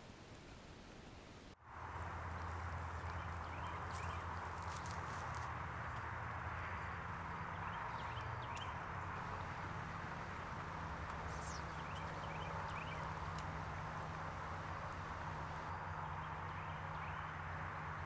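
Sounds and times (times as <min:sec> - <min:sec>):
steady hum and hiss: 0:00.0 - 0:18.0.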